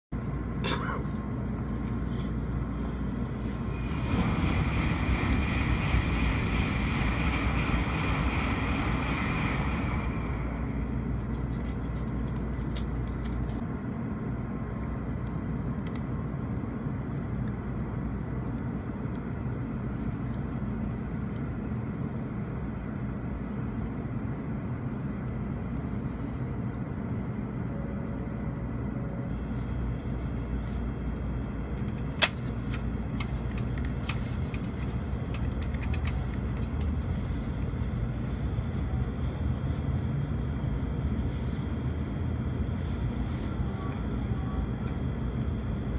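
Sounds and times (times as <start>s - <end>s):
train rumbling: 0.2s - 45.9s.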